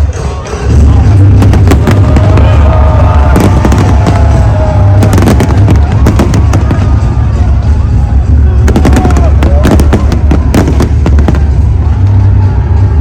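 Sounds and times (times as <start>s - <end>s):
deep rumble: 0.8s - 13.0s
fireworks cracks and bangs: 0.8s - 13.0s.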